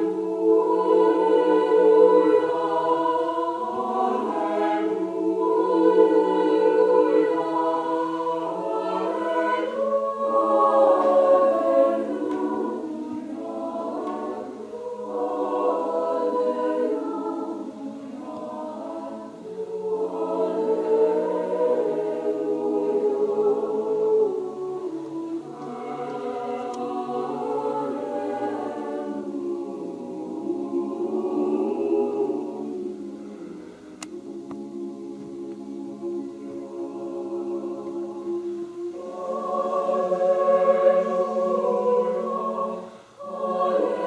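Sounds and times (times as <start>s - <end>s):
choir singing sustained chords: 0.0s - 44.0s.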